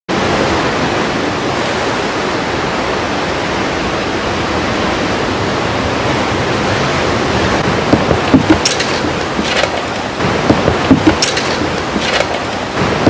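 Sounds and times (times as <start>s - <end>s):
ocean surf rushing: 0.1s - 13.0s.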